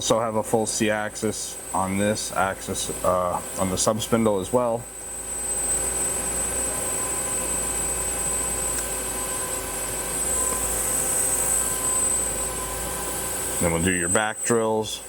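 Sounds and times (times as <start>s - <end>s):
lathe whining over hiss: 0.0s - 15.0s.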